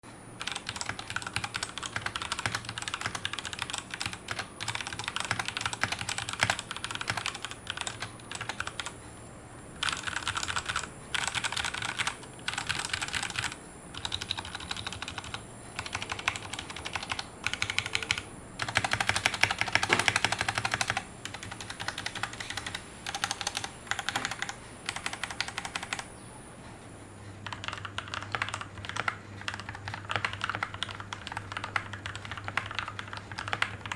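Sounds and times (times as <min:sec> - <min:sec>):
mechanical keyboard typing: 0:00.4 - 0:09.0, 0:09.8 - 0:26.1, 0:27.4 - 0:33.9.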